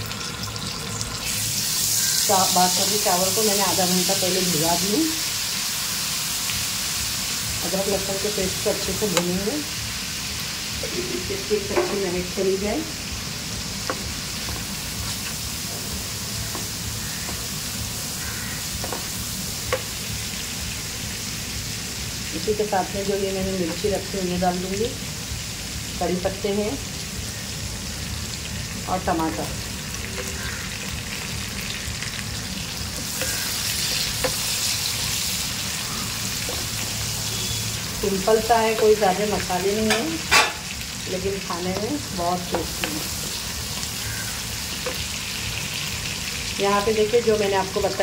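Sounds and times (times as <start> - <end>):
hot oil sizzling in a pan: 0.0 - 48.0.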